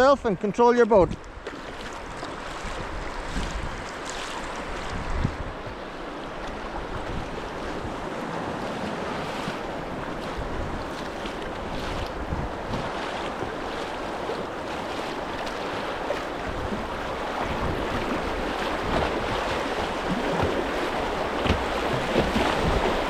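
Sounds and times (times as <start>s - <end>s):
river water rushing: 0.0s - 23.0s
water splashes: 0.0s - 23.0s.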